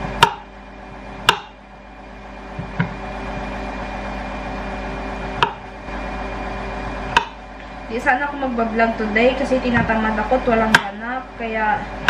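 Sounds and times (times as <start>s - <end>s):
clothes dryer humming: 0.0s - 12.0s.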